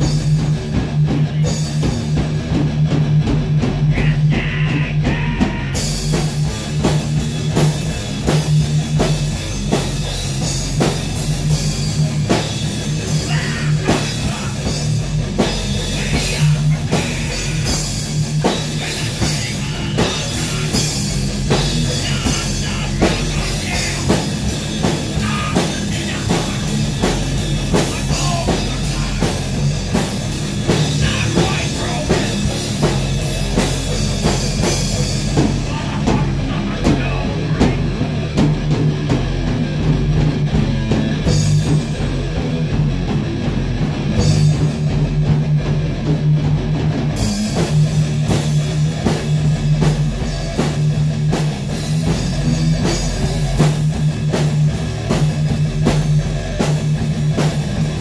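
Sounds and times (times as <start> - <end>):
rock music with drums and guitar: 0.0 - 58.0.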